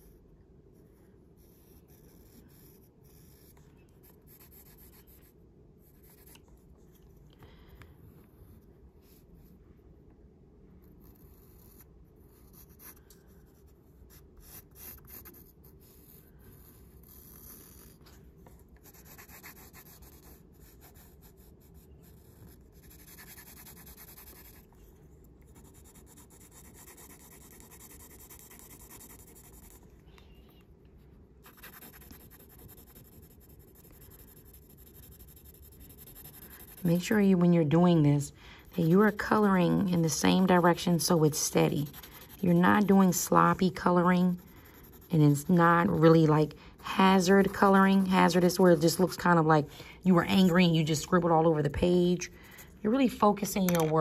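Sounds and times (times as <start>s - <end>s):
pencil scratching on paper: 0.0s - 6.8s, 10.8s - 29.9s, 31.4s - 49.6s.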